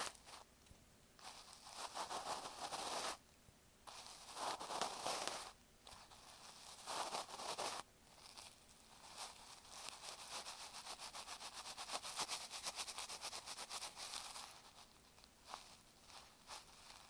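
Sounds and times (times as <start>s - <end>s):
scratchy rustling on microphone: 1.2s - 3.2s, 3.9s - 17.0s.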